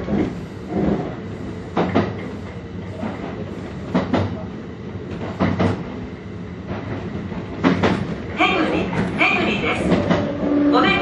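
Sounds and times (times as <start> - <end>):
train wheels clacking over joints: 0.0 - 4.4, 5.1 - 6.0, 6.6 - 10.6
train running rumble: 0.0 - 11.0.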